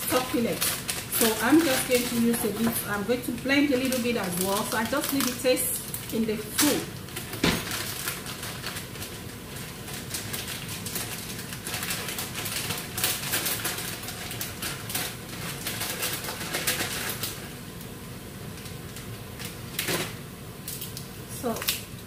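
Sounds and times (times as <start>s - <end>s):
plastic packaging rustling: 0.0s - 17.8s, 18.4s - 21.9s.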